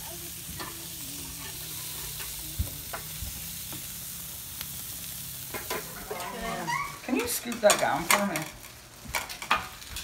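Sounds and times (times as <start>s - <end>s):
patties sizzling on a grill: 0.0s - 10.0s.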